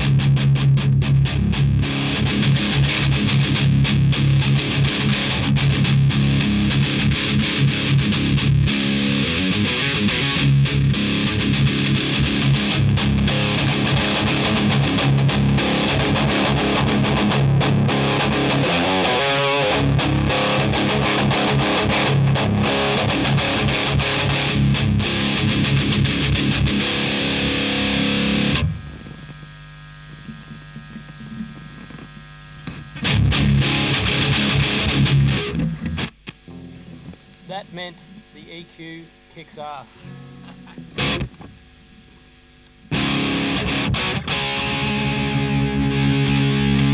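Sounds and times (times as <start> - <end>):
distorted electric guitar: 0.0 - 46.9
steady amp hum: 0.0 - 46.9.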